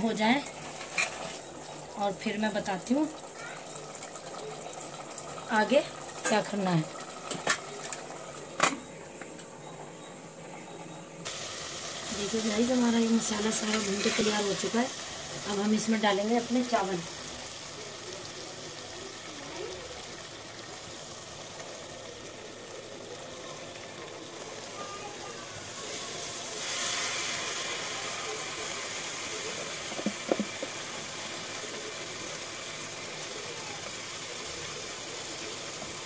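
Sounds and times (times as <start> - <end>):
food sizzling in pressure cooker: 0.0 - 36.0.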